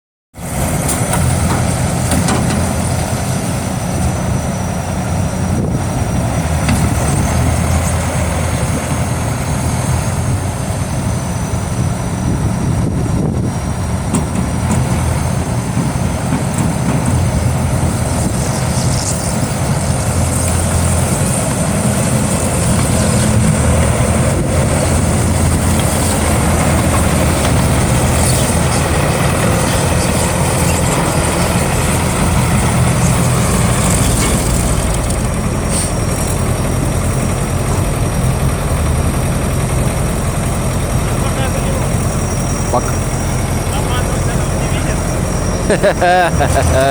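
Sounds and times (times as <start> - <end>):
tracked vehicle engine running: 0.4 - 46.9.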